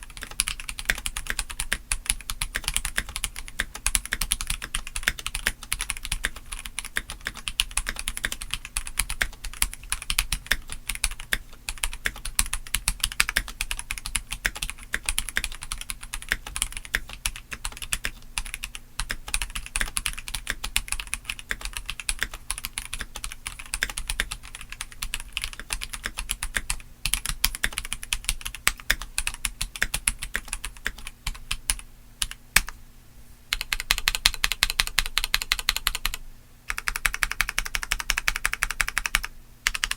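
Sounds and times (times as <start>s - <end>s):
fast mechanical keyboard typing: 0.0s - 32.8s, 33.5s - 39.9s.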